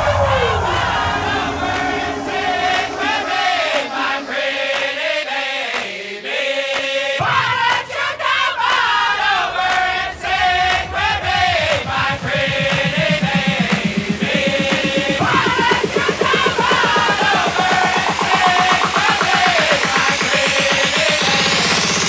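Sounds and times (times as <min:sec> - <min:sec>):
crowd singing along: 0:00.0 - 0:22.0
dance music with singing: 0:00.1 - 0:22.0.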